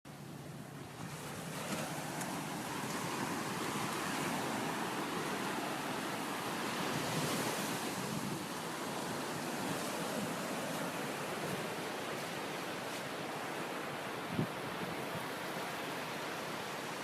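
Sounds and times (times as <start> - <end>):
waves breaking on beach: 0.1 - 17.0.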